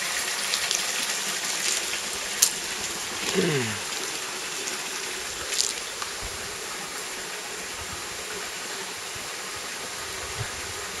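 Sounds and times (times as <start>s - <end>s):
mountain stream flowing: 0.0s - 11.0s.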